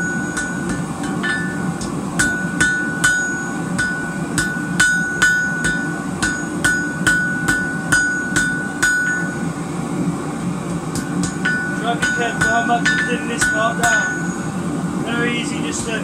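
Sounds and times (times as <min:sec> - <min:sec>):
hammer striking metal on anvil: 0:00.0 - 0:09.5, 0:10.9 - 0:14.6.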